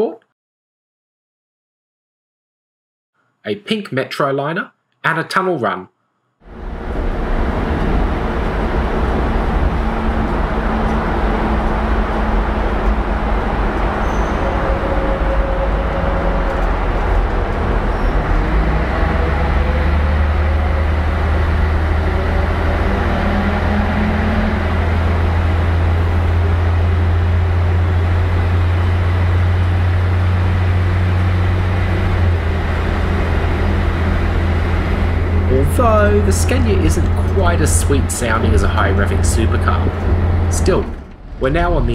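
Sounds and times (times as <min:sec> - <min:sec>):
bus engine drone: 0:06.4 - 0:41.9
road noise: 0:06.4 - 0:41.9.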